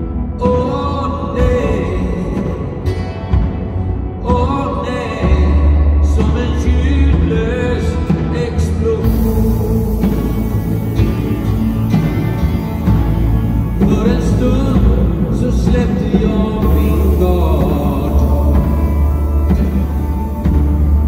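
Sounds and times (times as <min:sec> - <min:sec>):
acoustic guitar: 0:00.0 - 0:21.0
drums: 0:00.0 - 0:21.0
electric guitar: 0:00.0 - 0:21.0
upright bass: 0:00.0 - 0:21.0.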